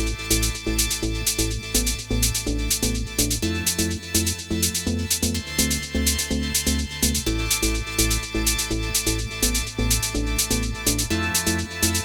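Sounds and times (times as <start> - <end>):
electronic music with quick beat: 0.0 - 12.0.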